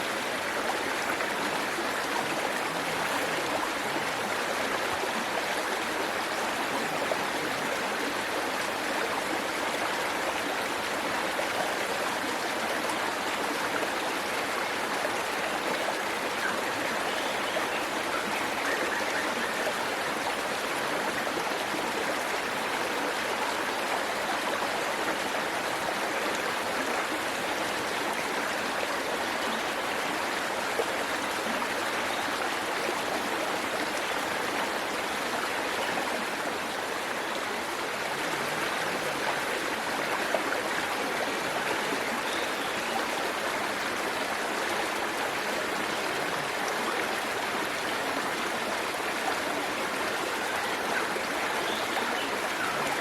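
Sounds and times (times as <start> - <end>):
waterfall rushing and splashing: 0.0 - 53.0.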